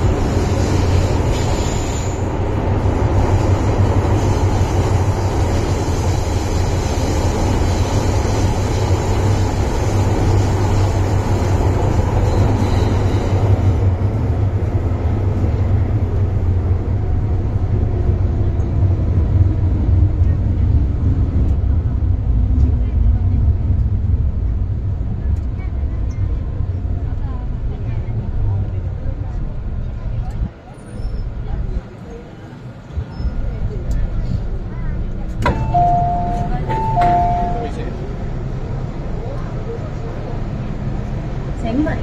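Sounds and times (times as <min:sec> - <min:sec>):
train rumbling in tunnel: 0:00.0 - 0:42.0.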